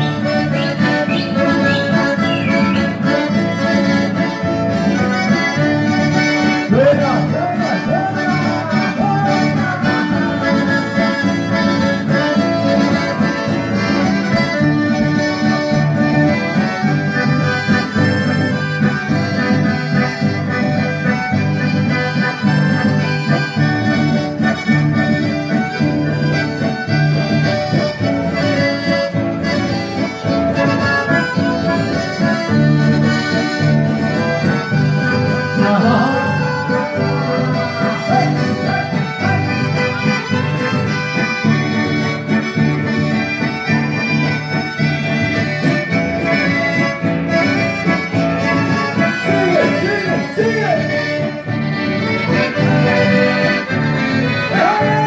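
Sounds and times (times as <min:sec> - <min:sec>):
accordions playing dance music: 0:00.0 - 0:55.0
acoustic guitar accompaniment: 0:00.0 - 0:55.0.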